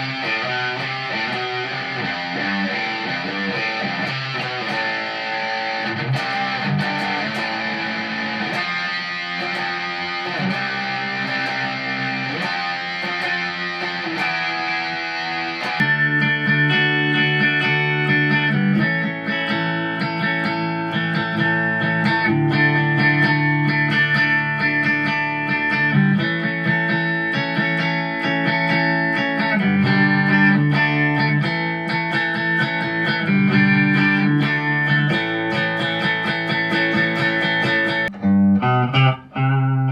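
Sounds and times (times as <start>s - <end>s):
electric guitar through effects: 0.0s - 39.9s.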